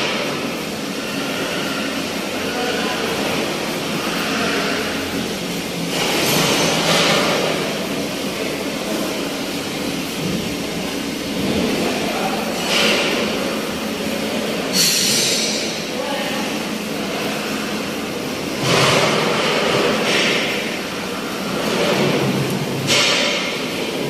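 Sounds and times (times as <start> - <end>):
machinery rumble and hiss: 0.0 - 24.0.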